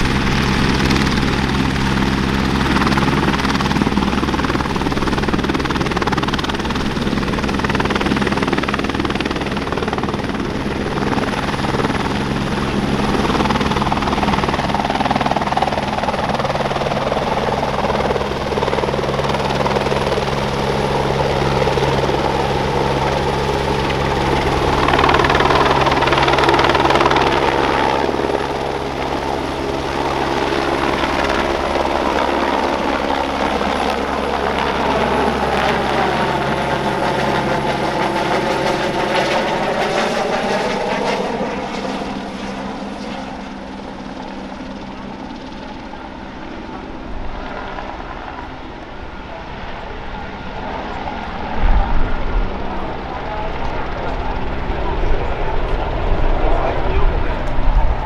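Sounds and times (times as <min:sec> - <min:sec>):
helicopter rotor and turbine: 0:00.0 - 0:58.0.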